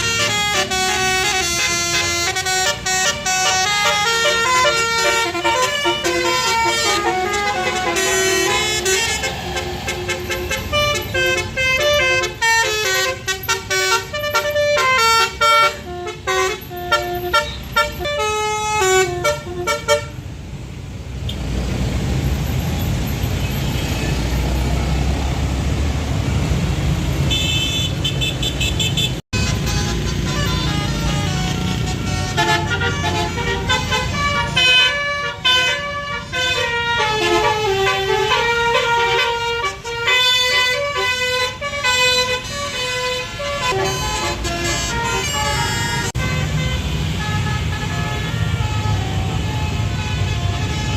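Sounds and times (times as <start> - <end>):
high horn toots: 0.0 - 20.2, 27.3 - 50.9
multi-tone bus horn tune: 0.0 - 20.3, 27.3 - 50.9
engine and road rumble: 0.0 - 50.9.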